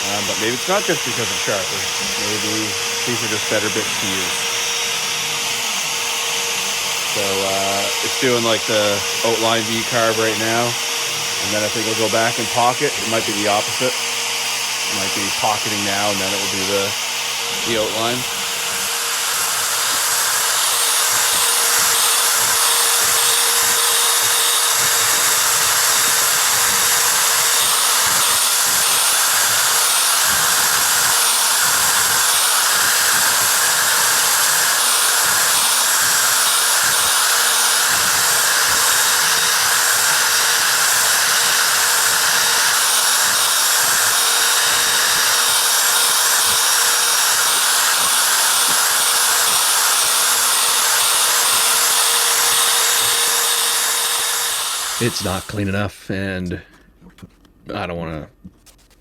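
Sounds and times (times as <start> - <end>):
router spindle whine carving wood: 0.0 - 55.7.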